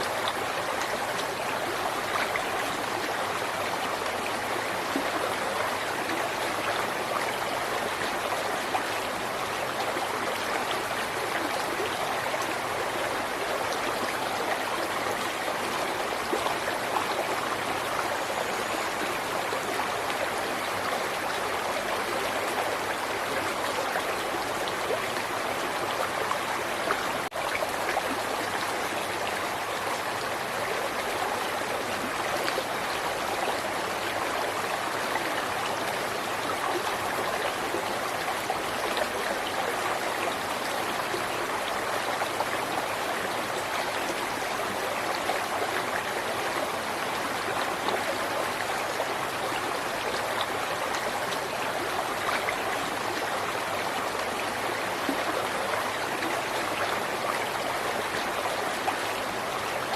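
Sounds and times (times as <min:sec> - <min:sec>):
river flowing: 0:00.0 - 0:59.9
water splashes and trickles: 0:00.0 - 0:59.9.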